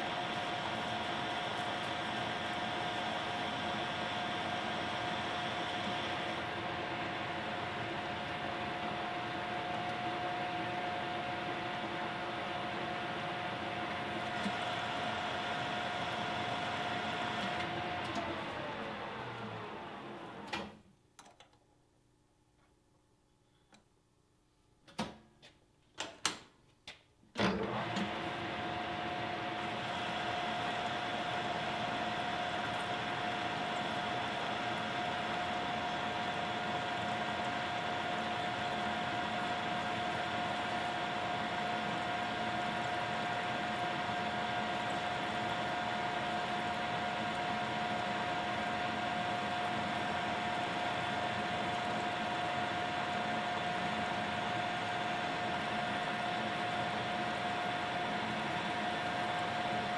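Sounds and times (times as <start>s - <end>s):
metal lathe motor whine: 0.0s - 20.5s, 27.6s - 59.9s.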